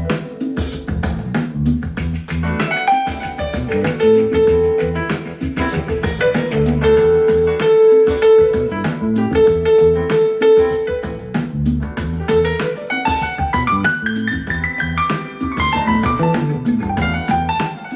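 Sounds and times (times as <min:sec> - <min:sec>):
piano: 0:00.0 - 0:17.9
steady drum beat: 0:00.0 - 0:17.9
instrumental music with guitar: 0:02.4 - 0:11.5, 0:12.2 - 0:17.9.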